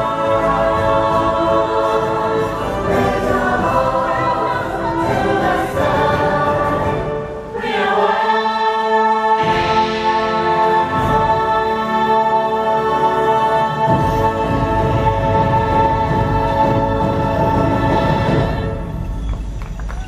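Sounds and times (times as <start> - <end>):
choir singing held chords: 0.0 - 19.4
music: 0.0 - 20.0.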